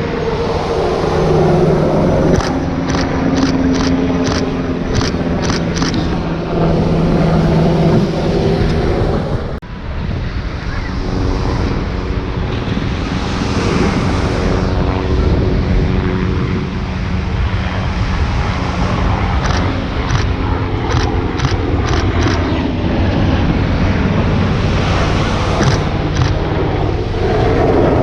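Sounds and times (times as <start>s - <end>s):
helicopter flying: 0.0s - 28.0s
wind on microphone: 0.0s - 28.0s.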